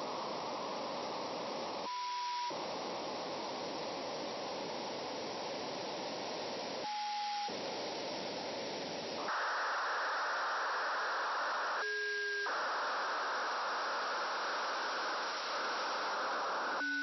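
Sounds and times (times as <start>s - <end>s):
radio hiss and static: 0.0s - 17.0s.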